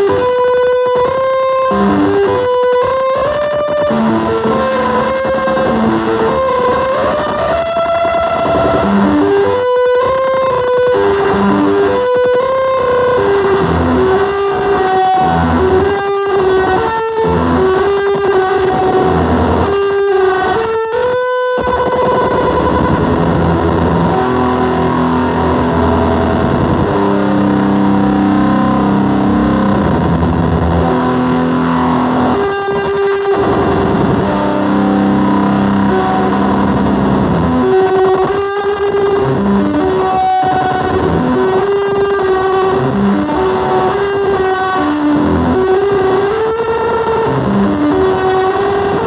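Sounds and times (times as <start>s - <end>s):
harsh distorted noise tones: 0.0s - 49.0s.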